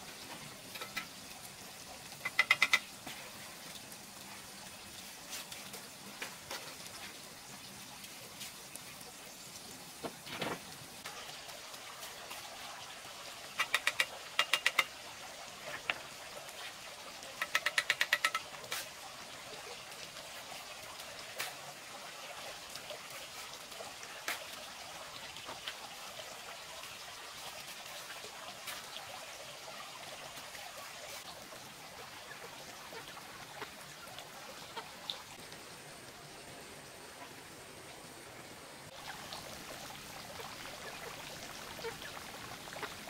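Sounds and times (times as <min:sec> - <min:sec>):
faint steady hiss: 0:00.0 - 0:43.0.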